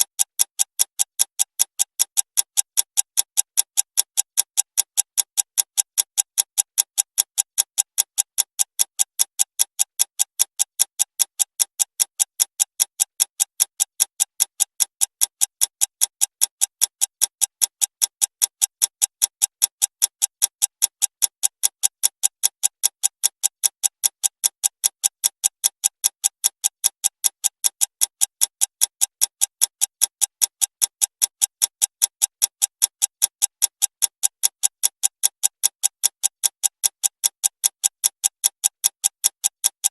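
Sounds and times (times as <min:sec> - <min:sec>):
clock ticking fast: 0:00.0 - 0:39.9.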